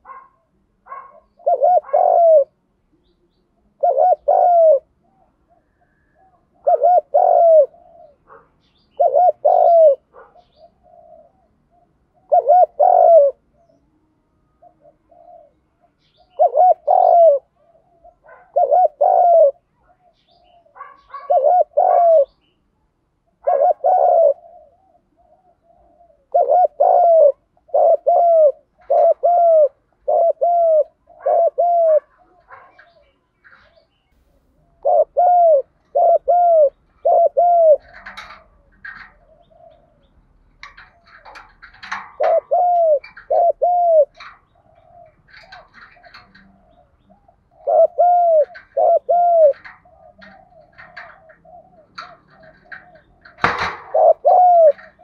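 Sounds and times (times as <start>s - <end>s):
dove cooing: 0.0s - 22.5s, 23.3s - 55.0s.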